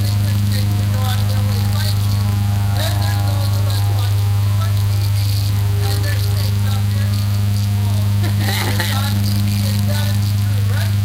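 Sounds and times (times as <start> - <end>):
faint voices: 0.0 - 11.0
loud electrical hum: 0.0 - 11.0.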